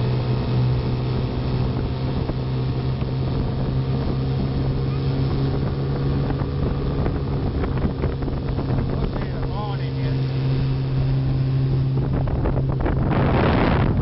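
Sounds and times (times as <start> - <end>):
motorboat engine droning: 0.0 - 14.0
wind noise on microphone: 0.0 - 14.0.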